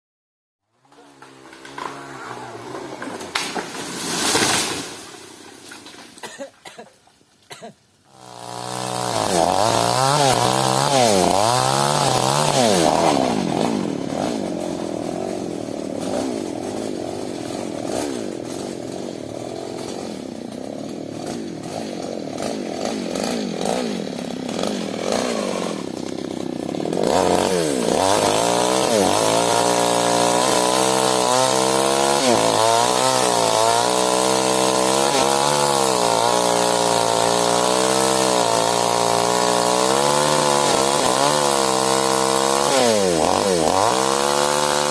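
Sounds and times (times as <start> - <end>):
chainsaw revving and cutting wood: 0.7 - 6.8, 7.5 - 44.9.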